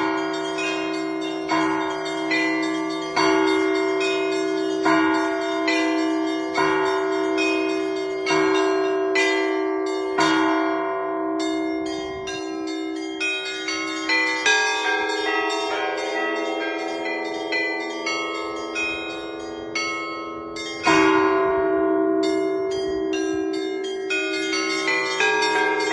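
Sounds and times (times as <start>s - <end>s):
church bells pealing: 0.0s - 25.9s.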